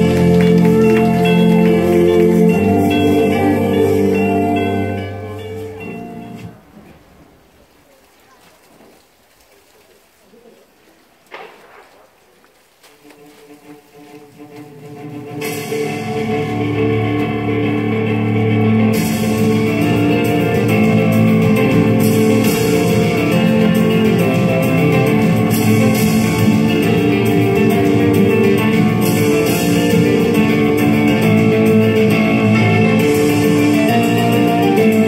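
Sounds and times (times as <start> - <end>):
instrumental music: 0.0 - 6.7, 12.9 - 35.0.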